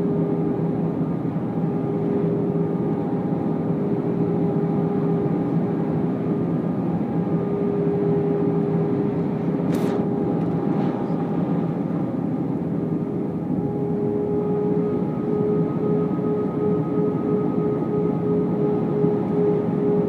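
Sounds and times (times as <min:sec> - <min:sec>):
airplane cabin engine noise: 0:00.0 - 0:20.0
humming tones: 0:00.0 - 0:20.0.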